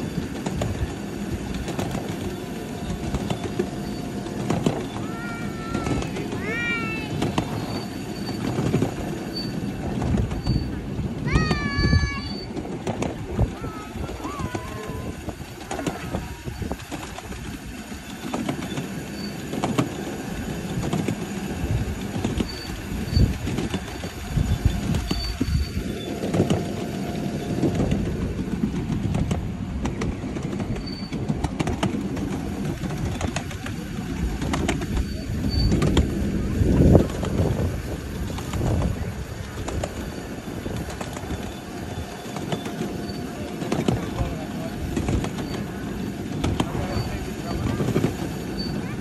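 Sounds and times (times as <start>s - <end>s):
clattering rail joints: 0.0s - 49.0s
miniature train wheels rumbling: 0.0s - 49.0s
sharp track clicks: 0.0s - 49.0s.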